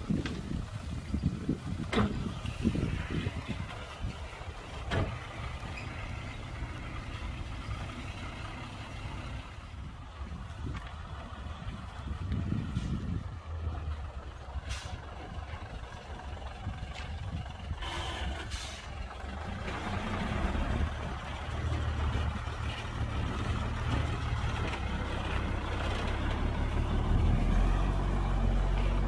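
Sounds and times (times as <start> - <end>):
diesel machinery rumbling: 0.0 - 29.0.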